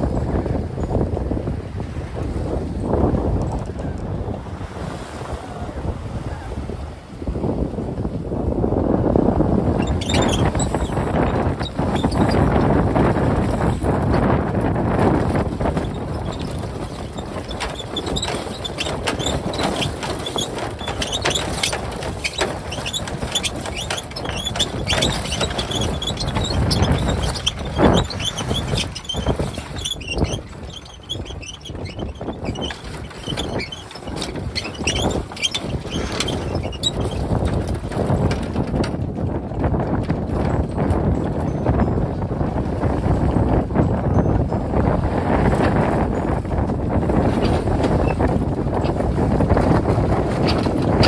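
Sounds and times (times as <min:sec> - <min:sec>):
water splashing against hull: 0:00.0 - 0:51.0
wind buffeting microphone: 0:00.0 - 0:51.0.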